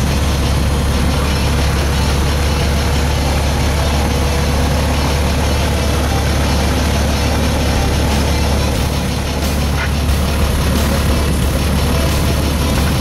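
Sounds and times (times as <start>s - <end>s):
airplane engine and propeller idling: 0.0s - 13.0s.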